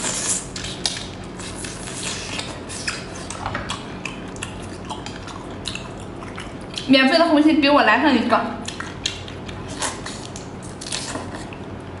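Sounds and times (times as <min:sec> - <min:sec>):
wet chewing and smacking: 0:00.0 - 0:06.9, 0:08.6 - 0:11.7
low steady hum: 0:00.0 - 0:12.0.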